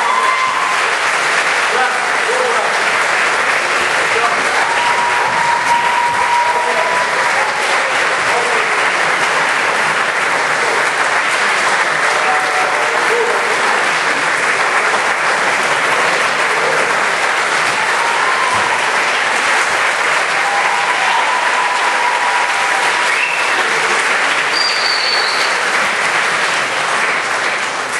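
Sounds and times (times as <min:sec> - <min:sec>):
audience applauding: 0:00.0 - 0:27.9.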